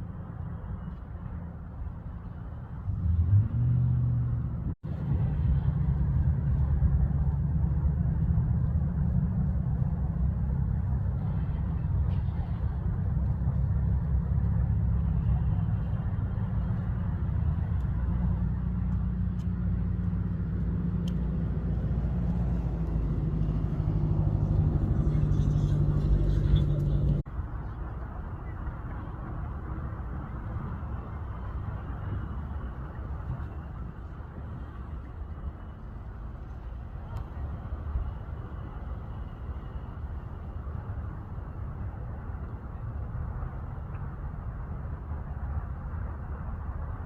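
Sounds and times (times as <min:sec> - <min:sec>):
low steady rumble: 0:00.0 - 0:47.0.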